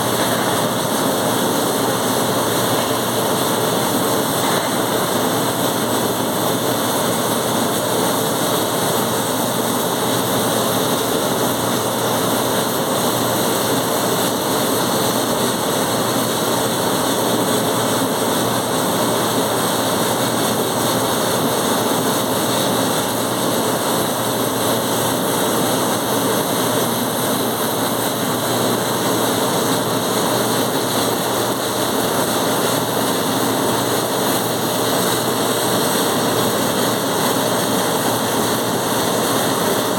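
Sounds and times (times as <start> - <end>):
welding arc hissing: 0.0 - 39.9.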